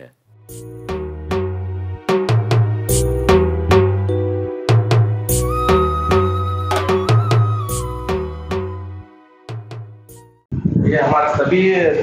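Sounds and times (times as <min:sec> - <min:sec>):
background music with drum hits: 0:00.5 - 0:10.4.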